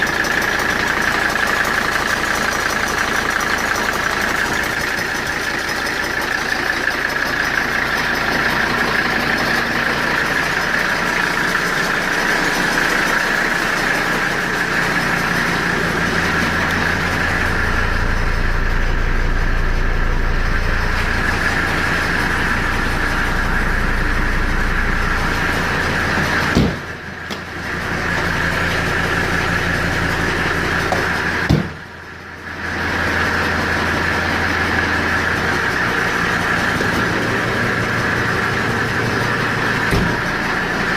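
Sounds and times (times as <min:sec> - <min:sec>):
car engine idling with knock: 0:00.0 - 0:40.9.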